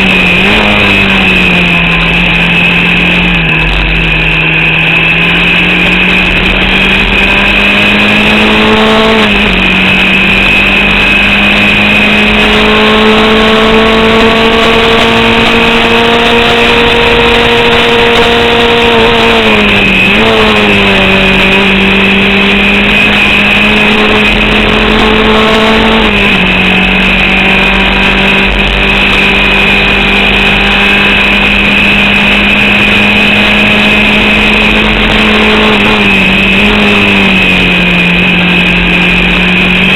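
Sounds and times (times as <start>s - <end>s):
racing car engine revving: 0.0s - 39.9s
steady high whine: 0.0s - 39.9s.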